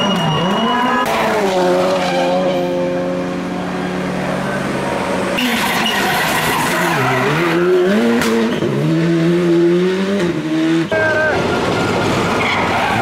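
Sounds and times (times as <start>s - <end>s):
rally car engines revving: 0.0s - 13.0s.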